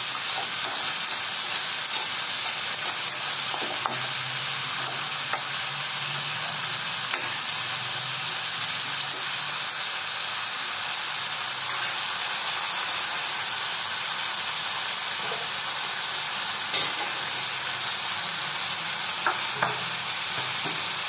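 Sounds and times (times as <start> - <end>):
snails frying in oil: 0.0 - 21.0.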